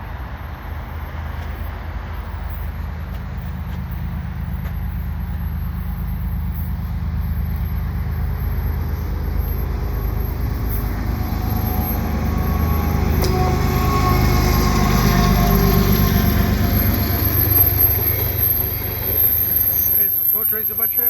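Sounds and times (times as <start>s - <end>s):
locomotive engine drone: 0.0s - 21.0s.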